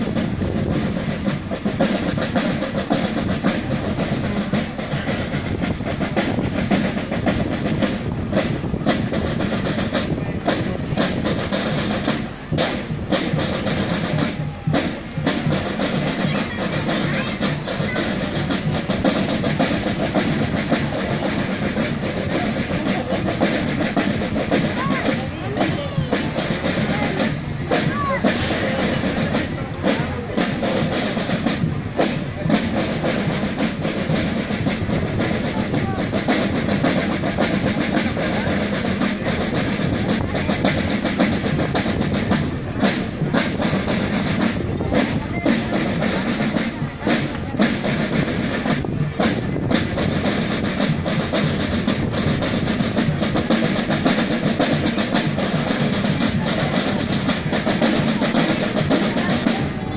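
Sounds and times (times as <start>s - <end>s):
band music: 0.0s - 59.9s
marching band drums: 0.0s - 59.9s.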